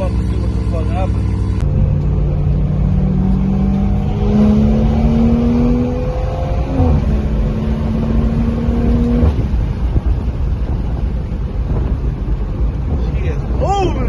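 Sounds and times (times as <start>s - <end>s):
car engine accelerating: 0.0s - 13.6s
low road rumble: 0.0s - 14.0s.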